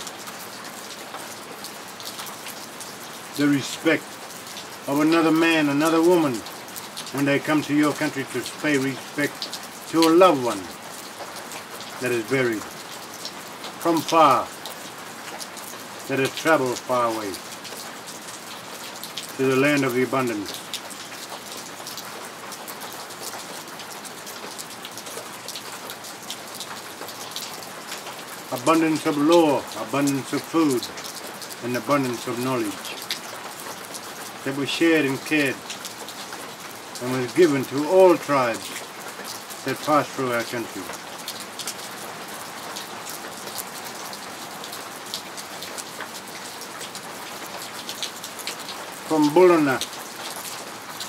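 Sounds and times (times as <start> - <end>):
steady rain falling: 0.0 - 51.0.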